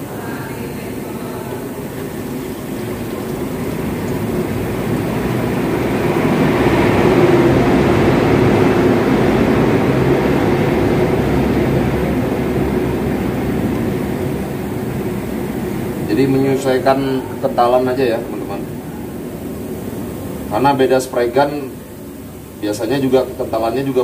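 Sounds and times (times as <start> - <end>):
dense rumbling noise: 0.0 - 22.6.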